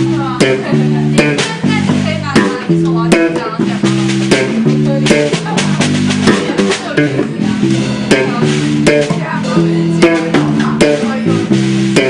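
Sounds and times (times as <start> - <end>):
drum hits: 0.0 - 12.0
guitar chords: 0.0 - 12.0
rock band music: 0.0 - 12.0.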